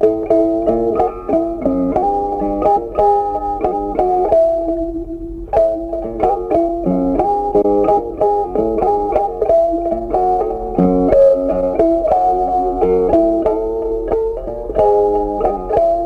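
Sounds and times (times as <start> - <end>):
plucked-string melody: 0.0 - 16.0.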